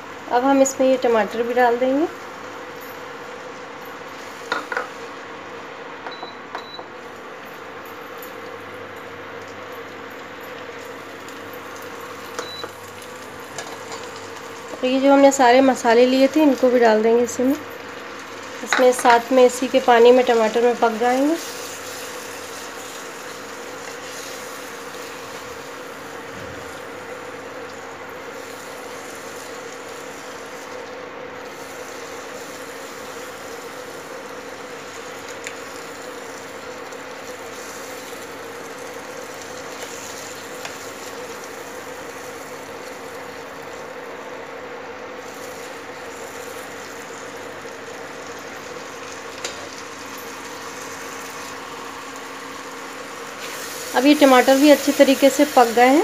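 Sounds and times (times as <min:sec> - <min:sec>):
tomatoes sizzling in oil: 0:00.0 - 0:06.3, 0:06.9 - 0:56.0.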